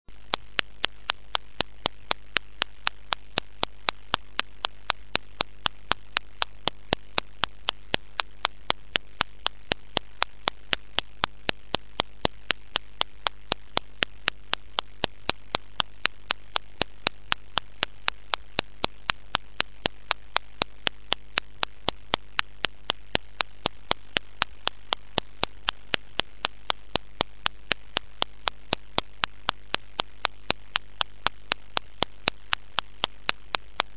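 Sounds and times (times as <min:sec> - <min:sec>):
sharp even clicks: 0:00.1 - 0:33.9
steady hum: 0:00.1 - 0:33.9.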